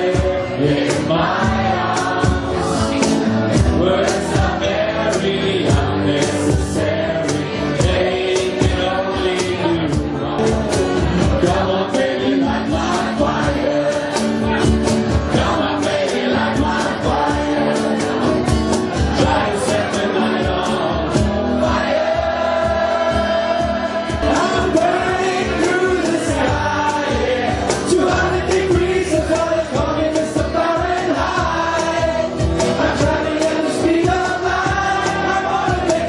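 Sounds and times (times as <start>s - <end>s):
crowd singing along: 0.0s - 36.0s
live rock band playing: 0.0s - 36.0s
steady drum beat: 0.0s - 36.0s.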